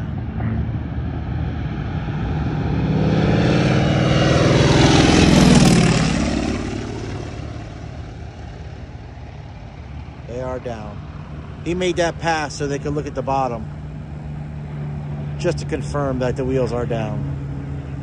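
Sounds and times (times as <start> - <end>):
propeller plane flying overhead: 0.0 - 18.0.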